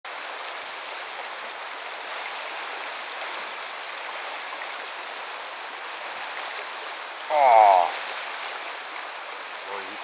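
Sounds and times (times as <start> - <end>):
river rushing over riffle: 0.1 - 10.0
small water splashes: 0.1 - 10.0.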